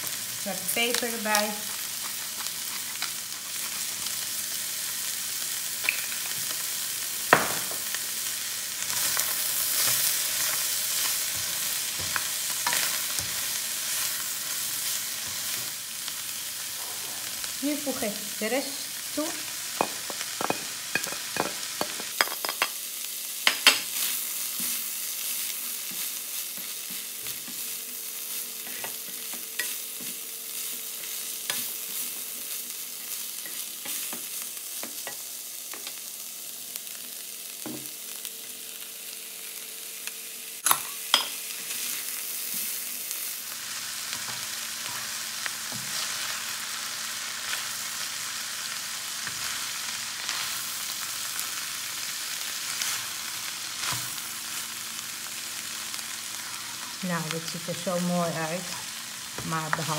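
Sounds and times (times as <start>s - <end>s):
filling sizzling in a wok: 0.0s - 59.9s.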